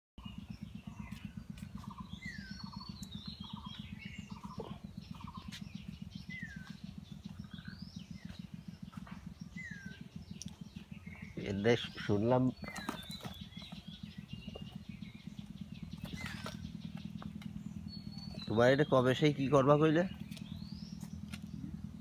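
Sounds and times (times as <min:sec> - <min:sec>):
low rumble: 0:00.2 - 0:22.0
songbirds calling: 0:00.2 - 0:22.0.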